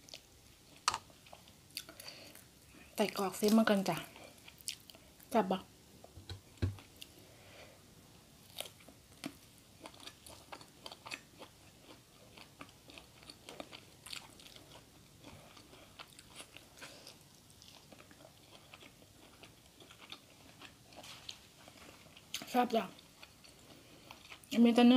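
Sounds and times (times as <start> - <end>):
person chewing and crunching food: 0.0 - 5.3, 8.4 - 24.6.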